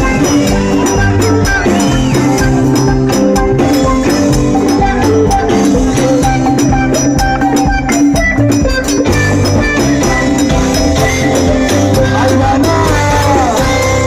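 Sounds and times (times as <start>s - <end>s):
bass line: 0.0s - 14.0s
drums beat: 0.0s - 14.0s
held pitched notes: 0.0s - 14.0s
jingling percussion: 0.0s - 14.0s.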